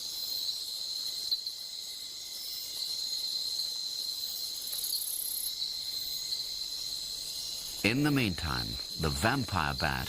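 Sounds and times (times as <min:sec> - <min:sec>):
insect trill: 0:00.0 - 0:10.0
insects hissing: 0:00.0 - 0:10.0.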